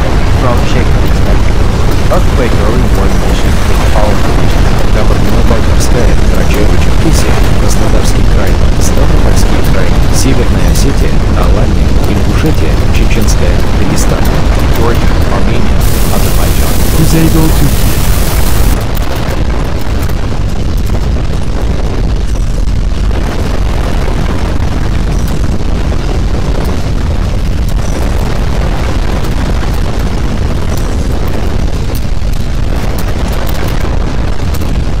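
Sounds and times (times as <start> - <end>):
deep earthquake rumbling: 0.0 - 35.0.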